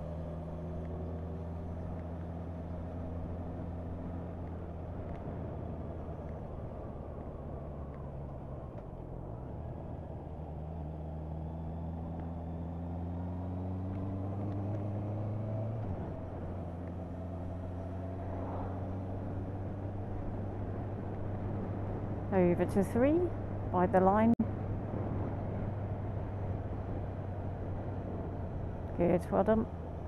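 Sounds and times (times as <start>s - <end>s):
motorcycle engine accelerating: 0.0s - 30.0s
road and wind noise: 0.0s - 30.0s.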